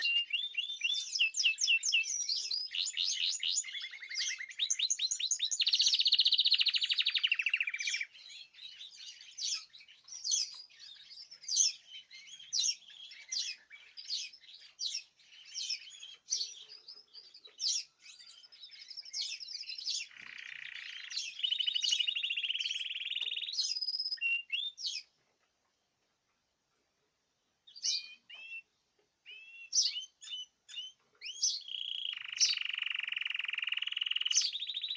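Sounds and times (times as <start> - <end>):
sharp bird chirps: 0.0 - 25.1, 29.3 - 34.9
songbirds trilling and warbling: 0.0 - 34.9.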